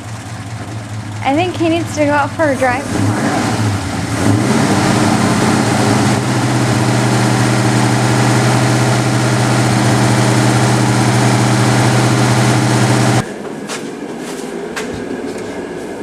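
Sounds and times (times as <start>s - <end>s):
engine humming with hiss: 0.0s - 13.2s.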